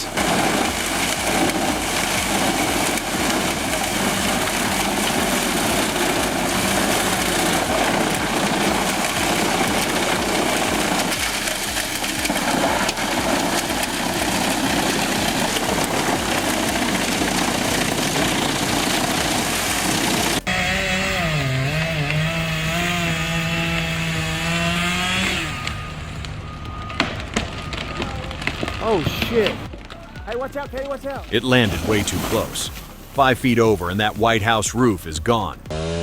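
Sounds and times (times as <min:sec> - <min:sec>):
wood chipper engine running: 0:00.0 - 0:36.0.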